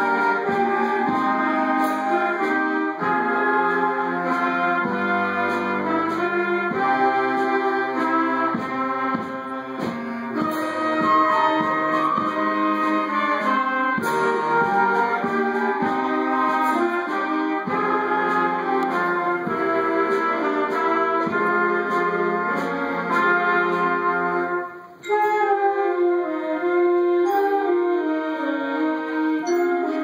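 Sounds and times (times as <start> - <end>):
concert band playing: 0.0 - 30.0.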